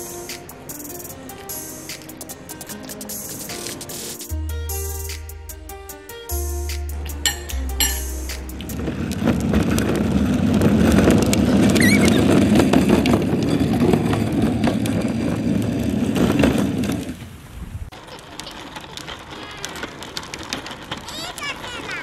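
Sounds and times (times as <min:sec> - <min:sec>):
plastic wheels rattling on concrete: 0:00.0 - 0:04.3, 0:07.2 - 0:22.0.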